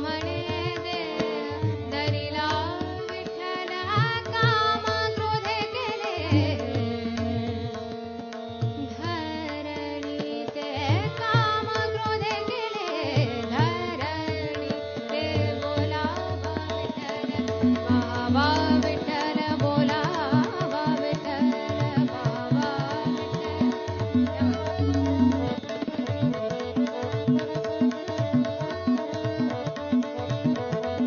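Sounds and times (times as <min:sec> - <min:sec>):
harmonium: 0:00.0 - 0:31.0
tabla playing rhythm: 0:00.0 - 0:31.0
tanpura drone: 0:00.0 - 0:31.0
woman singing: 0:00.0 - 0:31.0.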